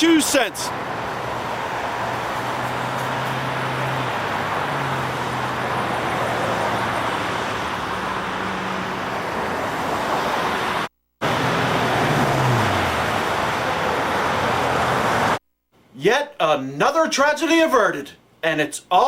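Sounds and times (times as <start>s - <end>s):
road traffic noise: 0.0s - 15.9s.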